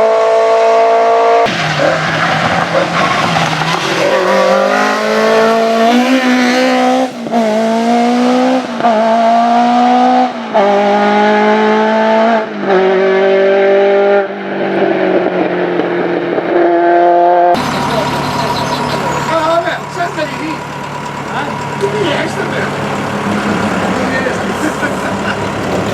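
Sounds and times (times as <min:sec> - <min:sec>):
rally car engine accelerating: 0:00.0 - 0:25.9.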